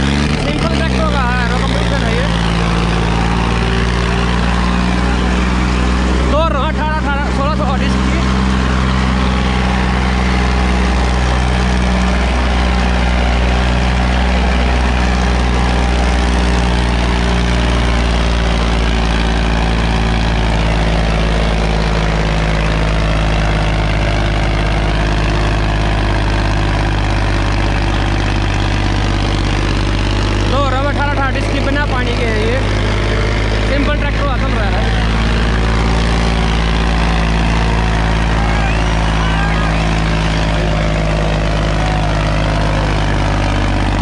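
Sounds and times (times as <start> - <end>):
diesel tractor engine under load: 0.0 - 44.0.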